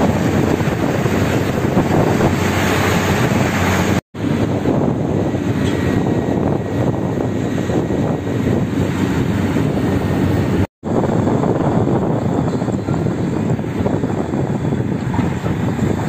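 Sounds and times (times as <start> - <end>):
diesel engines rumbling: 0.0 - 16.0.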